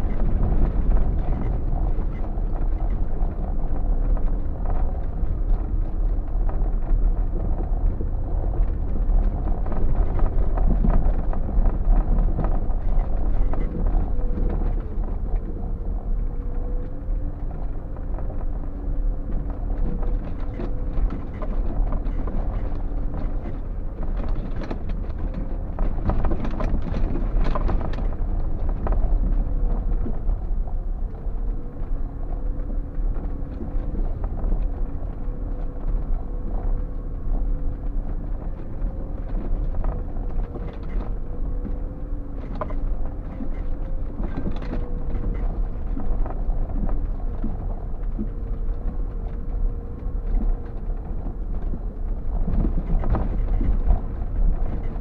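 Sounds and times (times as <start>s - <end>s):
vehicle engine drone: 0.0s - 55.0s.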